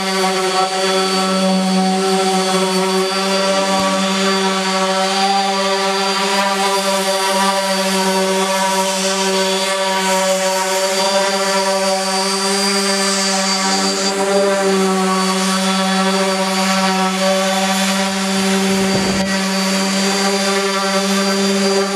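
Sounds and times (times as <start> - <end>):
orbital sander sanding wood: 0.0 - 21.9.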